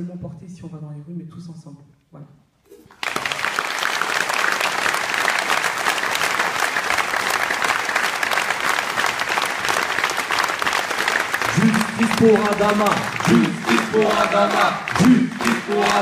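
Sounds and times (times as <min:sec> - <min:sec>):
large audience applauding: 0:02.9 - 0:16.0.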